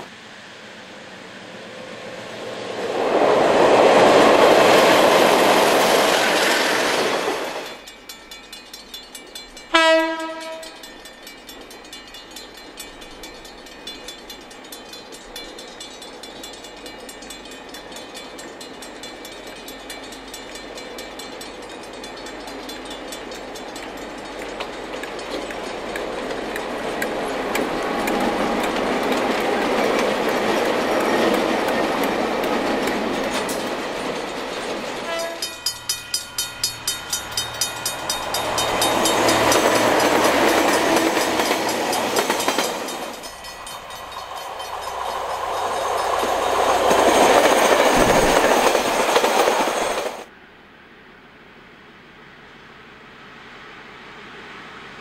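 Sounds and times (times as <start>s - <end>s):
diesel locomotives passing: 0.0s - 55.0s
wagons clicking over rail joints: 3.2s - 50.3s.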